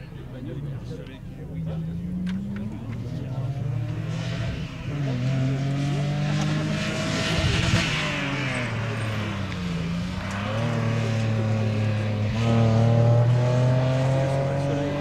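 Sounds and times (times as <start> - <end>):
rally car engine revving: 0.4 - 15.0.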